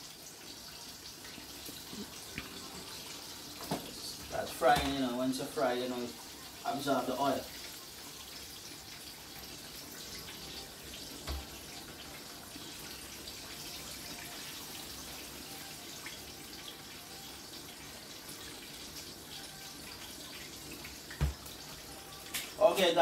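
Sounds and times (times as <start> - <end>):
oil sizzling with faint crackles: 0.0 - 23.0.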